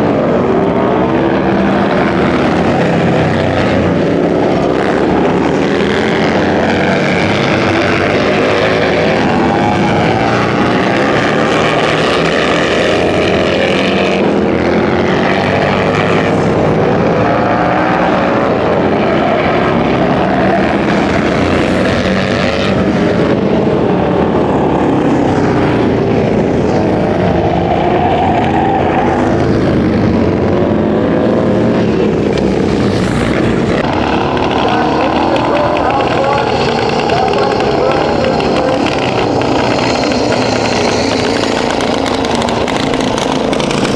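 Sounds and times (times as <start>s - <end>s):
motorcycle engines at speed: 0.0s - 43.9s.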